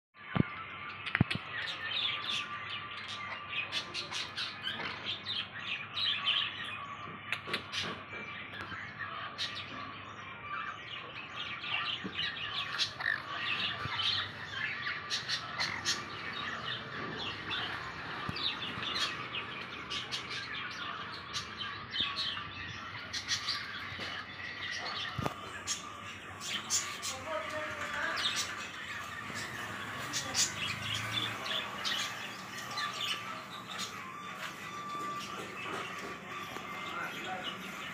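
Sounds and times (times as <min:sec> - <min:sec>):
birds chirping and squawking: 0:00.2 - 0:37.9.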